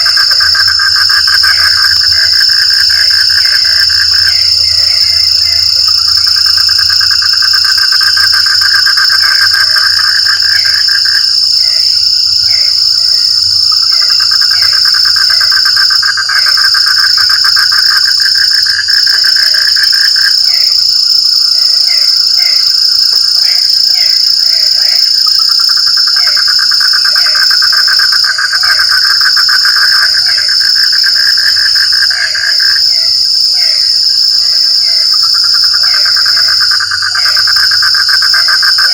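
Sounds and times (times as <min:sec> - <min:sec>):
frogs croaking: 0:00.0 - 0:38.9
frogs trilling: 0:00.0 - 0:38.9
high-pitched insect-like drone: 0:00.0 - 0:38.9.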